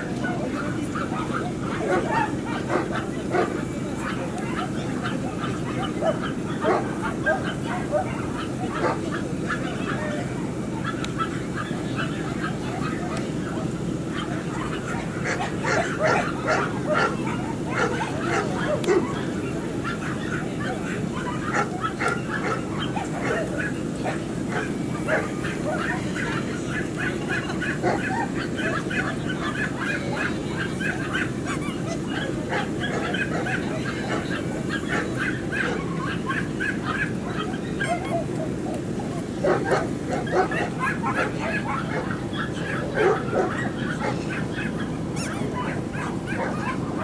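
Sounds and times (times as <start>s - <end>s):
dogs barking and yapping: 0.0s - 47.0s
people talking: 0.0s - 47.0s.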